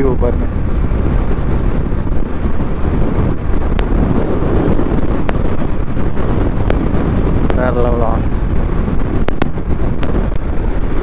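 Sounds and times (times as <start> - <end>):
road and engine noise: 0.0 - 11.0
wind noise on microphone: 0.0 - 11.0.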